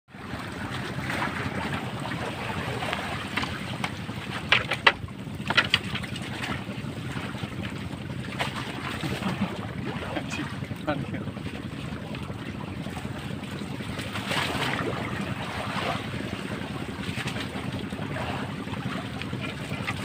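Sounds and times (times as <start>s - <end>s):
sea noise: 0.1s - 20.0s
wind: 0.1s - 20.0s.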